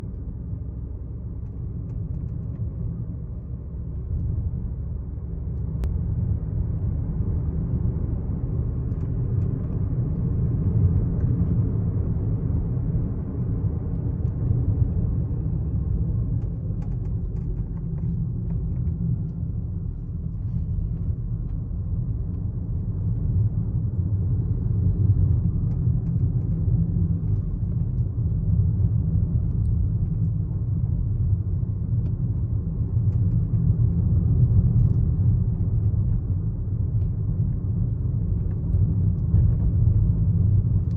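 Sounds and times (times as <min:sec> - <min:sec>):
car cabin rumble: 0:00.0 - 0:40.9.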